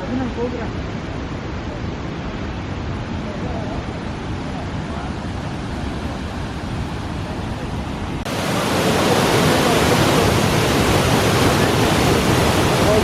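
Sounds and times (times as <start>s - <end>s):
waterfall rushing: 0.0s - 13.0s
wind on microphone: 0.0s - 13.0s.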